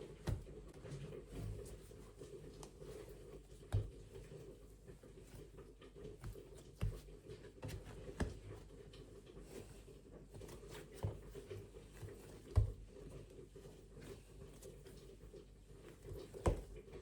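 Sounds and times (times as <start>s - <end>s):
soft knocks of objects handled: 0.0s - 17.0s.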